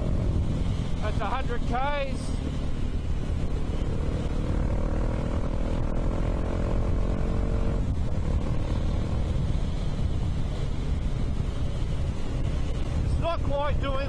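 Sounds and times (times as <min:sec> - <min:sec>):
motorcycle engine: 0:00.0 - 0:14.0
wind buffeting microphone: 0:00.0 - 0:14.0.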